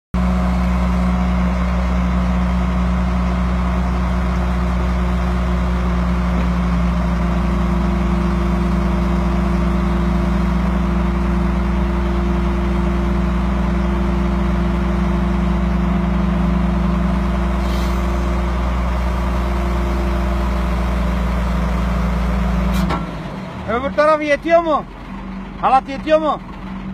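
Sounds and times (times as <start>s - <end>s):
crane engine droning: 0.2s - 26.9s.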